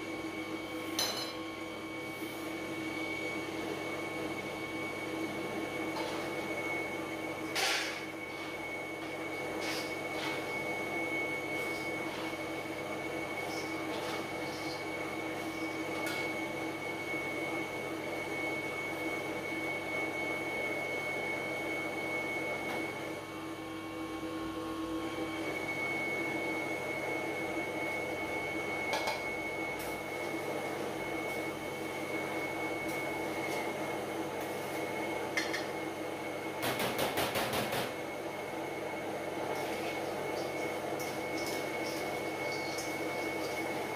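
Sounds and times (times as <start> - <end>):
grinder motor hum and whine: 0.0 - 43.9.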